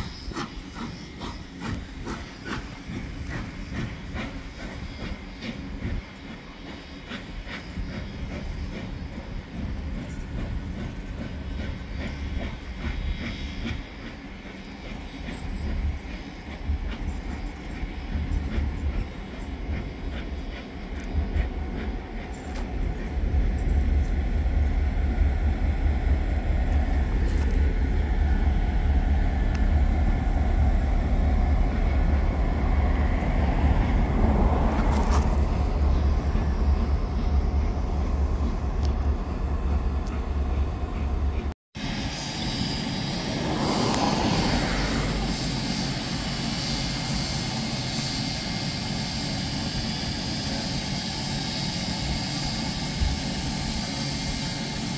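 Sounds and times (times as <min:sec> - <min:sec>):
steam locomotive hissing: 0:00.0 - 0:54.9
train rolling past: 0:00.0 - 0:54.9.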